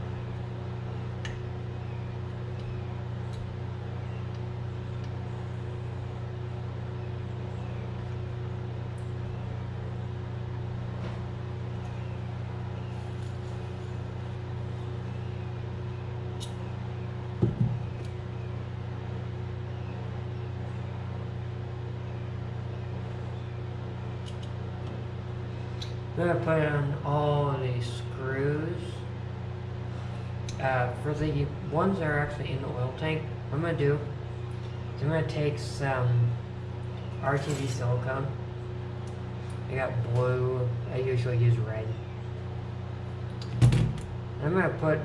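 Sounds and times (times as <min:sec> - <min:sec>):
machine hum: 0:00.0 - 0:45.0.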